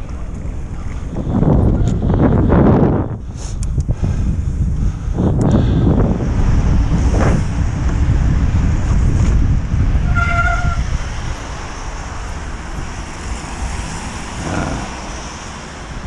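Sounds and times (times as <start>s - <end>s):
road traffic noise: 0.0s - 16.0s
wind buffeting microphone: 0.0s - 16.0s.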